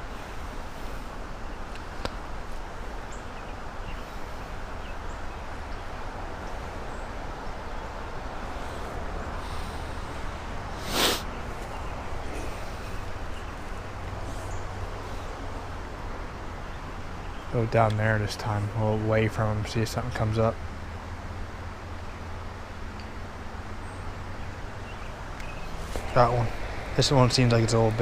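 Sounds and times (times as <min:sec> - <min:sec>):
fast-running creek rushing: 0:00.0 - 0:28.0.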